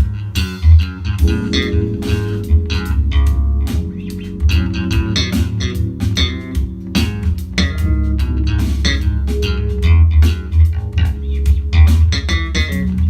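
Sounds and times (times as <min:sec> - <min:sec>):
drums: 0:00.0 - 0:13.0
heavy bass guitar line: 0:00.0 - 0:13.0
guitar music: 0:00.6 - 0:13.0.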